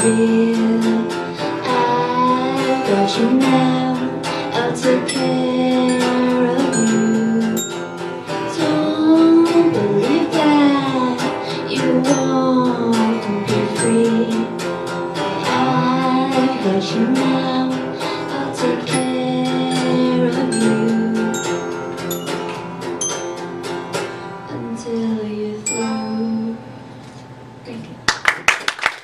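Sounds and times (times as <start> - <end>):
person singing: 0.0 - 22.0, 24.4 - 26.8
guitar strumming: 0.0 - 27.6.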